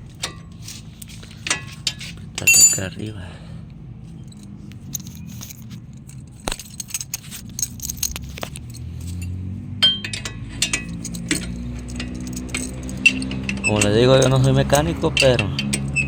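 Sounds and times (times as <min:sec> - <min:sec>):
metal hand tools clinking: 0:00.2 - 0:03.0, 0:04.2 - 0:16.0.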